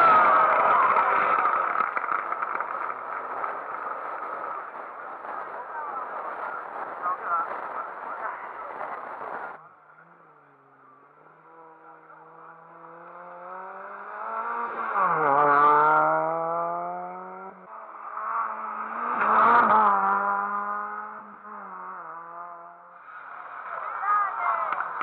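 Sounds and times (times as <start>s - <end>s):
rally cars passing at speed: 0.0s - 25.0s.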